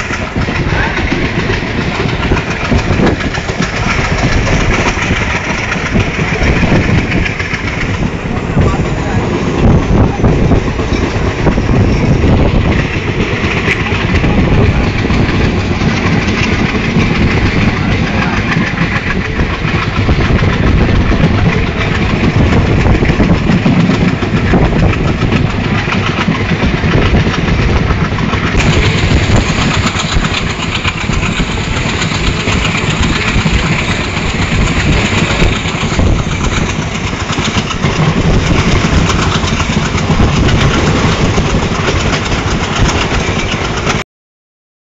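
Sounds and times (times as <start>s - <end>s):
passenger train running on track: 0.0s - 44.0s.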